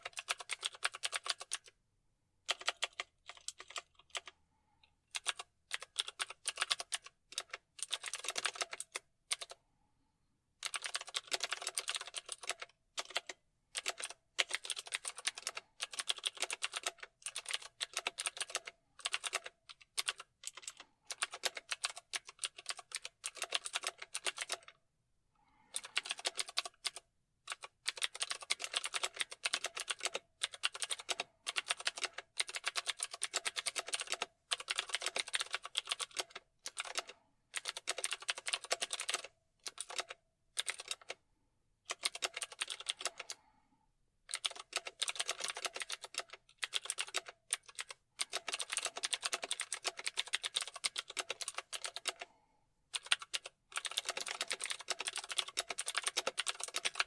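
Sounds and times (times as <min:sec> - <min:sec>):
fast typing on keyboard: 0:00.0 - 0:01.8, 0:02.5 - 0:04.3, 0:05.1 - 0:09.6, 0:10.6 - 0:24.8, 0:25.7 - 0:41.2, 0:41.9 - 0:43.4, 0:44.3 - 0:57.0.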